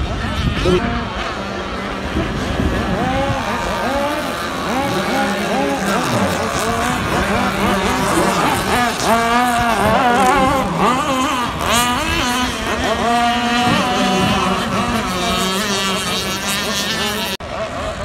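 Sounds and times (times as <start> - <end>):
model boat engines running: 0.0 - 18.0.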